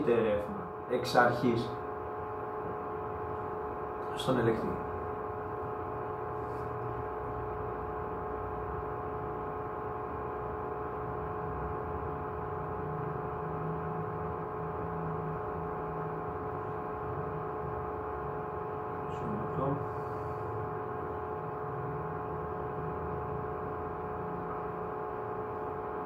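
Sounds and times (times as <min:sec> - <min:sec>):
equipment fan hum: 0:00.0 - 0:26.0.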